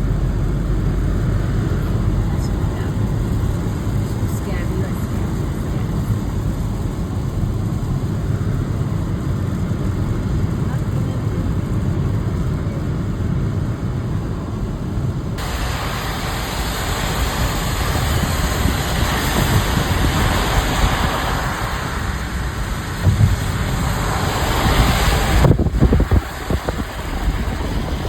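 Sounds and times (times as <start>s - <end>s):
heavy rain hissing: 0.0s - 12.8s, 15.4s - 28.0s
car rumble: 0.0s - 28.0s.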